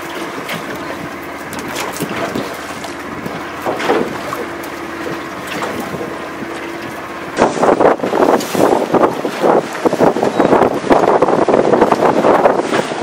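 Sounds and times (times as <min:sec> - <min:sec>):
boat motor hum: 0:00.0 - 0:13.0
rushing wind: 0:00.0 - 0:13.0
wind buffeting microphone: 0:00.0 - 0:13.0.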